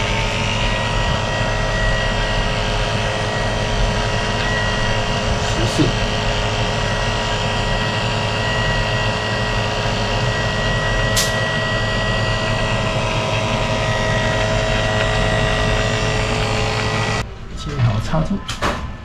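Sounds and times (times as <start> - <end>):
vacuum pump motor drone: 0.0 - 17.4.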